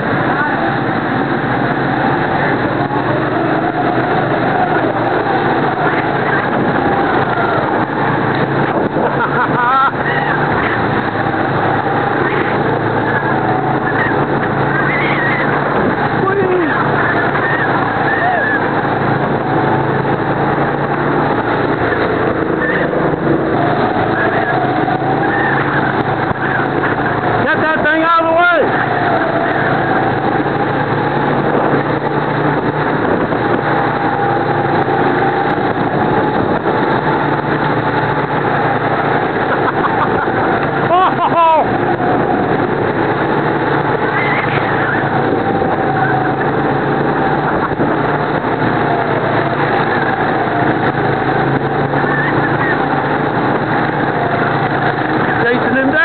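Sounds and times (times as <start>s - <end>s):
go-kart engine running: 0.0s - 56.0s
rushing noise: 0.0s - 56.0s.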